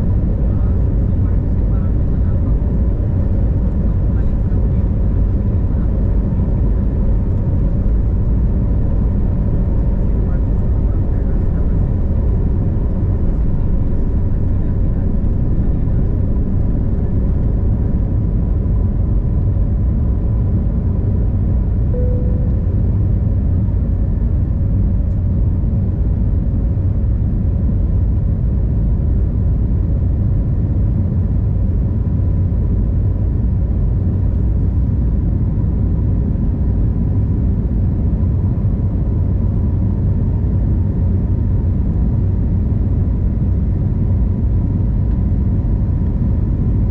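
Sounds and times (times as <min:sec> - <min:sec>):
aircraft cabin engine rumble: 0:00.0 - 0:46.9
faint constant hum: 0:00.0 - 0:46.9.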